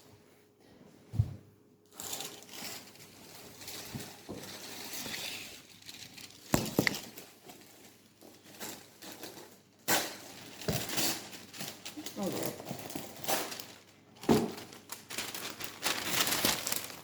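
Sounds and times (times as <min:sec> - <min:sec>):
rustling and crinkling: 0:00.2 - 0:17.0.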